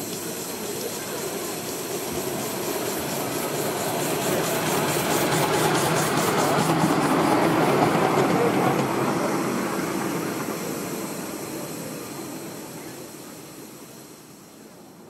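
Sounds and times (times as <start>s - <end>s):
miniature steam locomotive passing: 0.0s - 15.0s.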